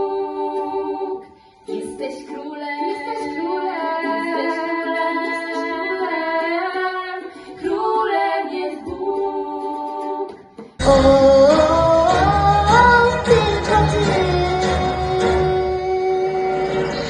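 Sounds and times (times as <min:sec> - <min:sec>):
girls singing slow melody: 0:00.0 - 0:17.0
ukulele: 0:00.0 - 0:17.0
girl singing over backing track: 0:01.7 - 0:17.0.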